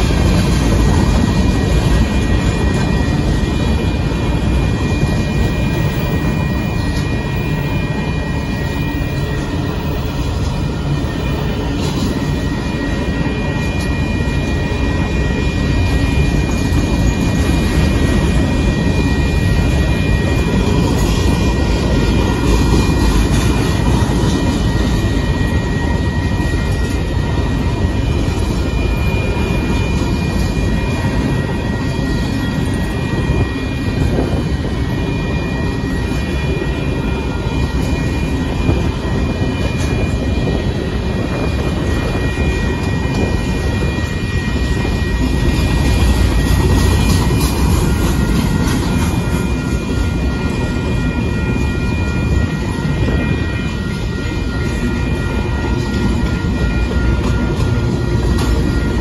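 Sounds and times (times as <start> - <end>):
freight train wheels clattering: 0.0 - 59.0
high ringing tone: 0.0 - 59.0.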